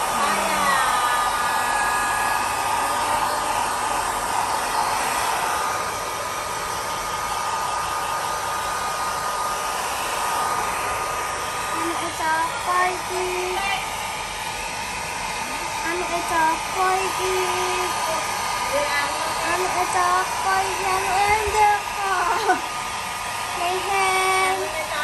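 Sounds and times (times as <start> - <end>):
hair dryer blowing: 0.0 - 25.0.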